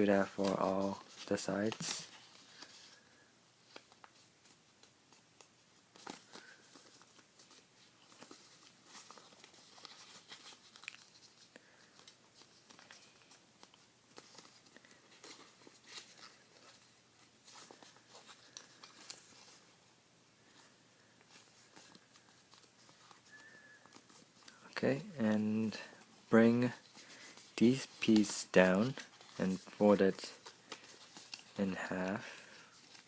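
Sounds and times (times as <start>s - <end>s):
paper being folded and creased: 0.0s - 3.0s, 3.6s - 19.7s, 20.5s - 33.0s.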